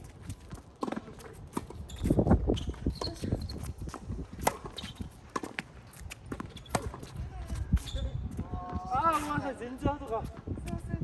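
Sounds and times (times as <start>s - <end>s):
wind buffeting microphone: 0.0s - 5.4s, 6.1s - 11.0s
footsteps on tennis court: 0.0s - 11.0s.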